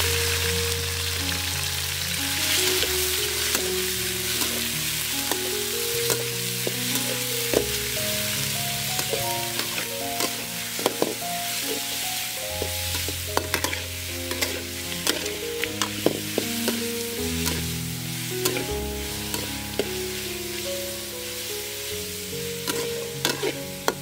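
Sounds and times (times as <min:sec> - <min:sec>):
chicken sizzling in hot oil: 0:00.0 - 0:24.0
metal spatula scraping wok: 0:02.3 - 0:20.7, 0:21.3 - 0:24.0.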